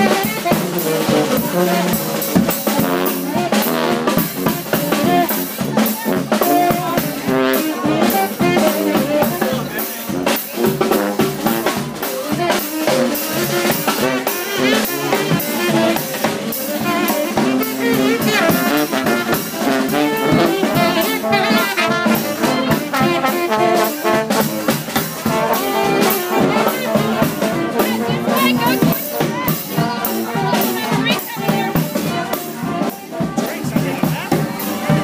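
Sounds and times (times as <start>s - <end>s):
brass band playing: 0.0s - 35.0s
drum beat: 0.0s - 35.0s.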